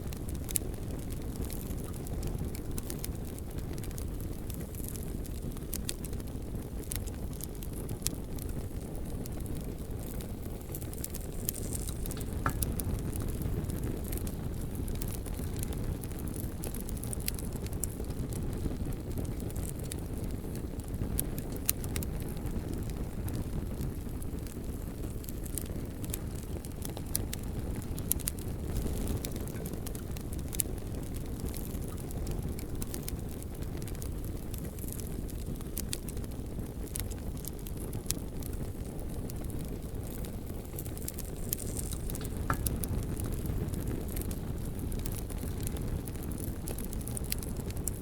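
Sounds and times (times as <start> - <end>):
bonfire flames rumbling: 0.0 - 48.0
wood crackling and popping: 0.0 - 48.0.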